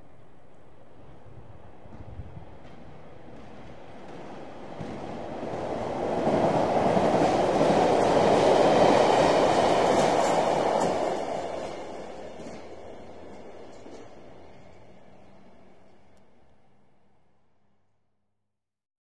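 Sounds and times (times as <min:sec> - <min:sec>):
train passing: 0:00.0 - 0:17.5.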